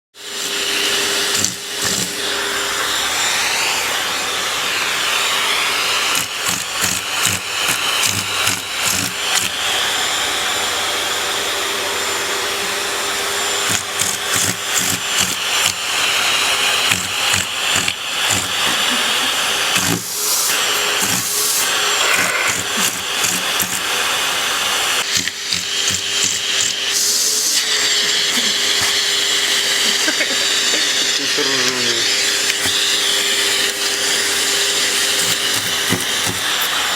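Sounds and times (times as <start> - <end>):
vacuum cleaner whining hum: 0.2 - 36.9.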